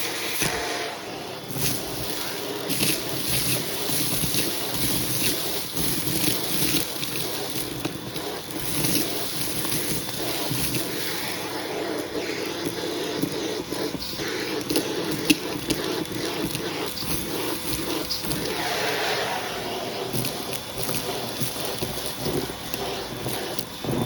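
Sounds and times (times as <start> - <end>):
vacuum cleaner suction: 0.0 - 24.0.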